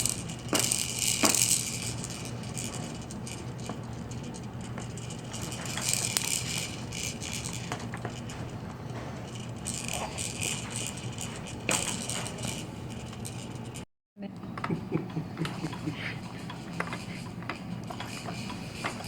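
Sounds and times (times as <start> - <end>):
plastic rattle toys rattling: 0.0 - 8.5, 9.2 - 13.8, 15.7 - 19.0.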